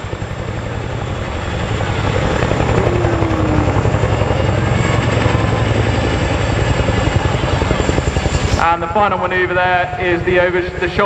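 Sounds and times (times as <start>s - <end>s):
helicopter rotors beating: 0.0s - 11.0s.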